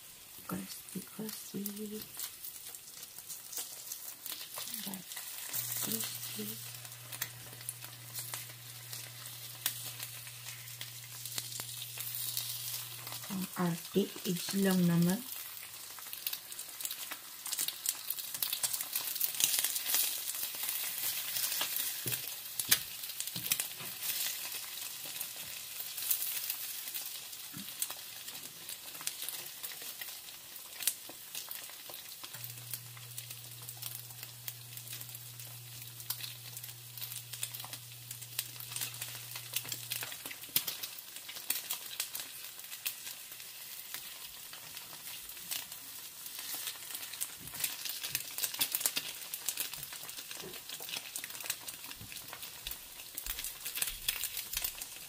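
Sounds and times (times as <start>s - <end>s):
eggs sizzling in a pan: 0.0s - 55.0s.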